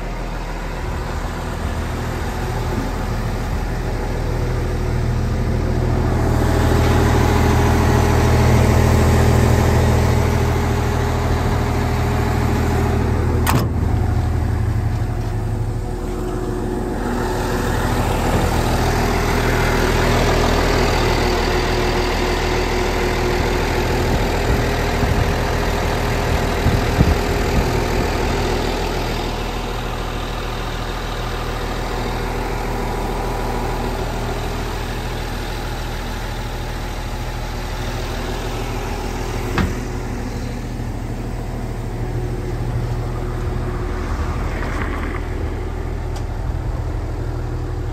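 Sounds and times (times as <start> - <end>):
excavator engine idling: 0.0 - 47.9.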